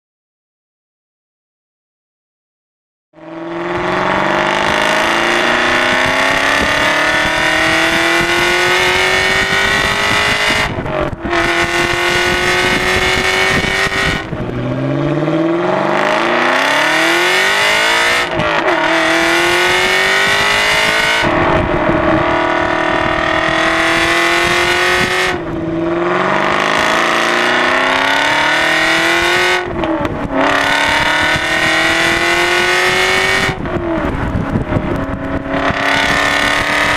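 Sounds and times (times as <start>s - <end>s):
car engine accelerating hard: 3.2s - 36.9s.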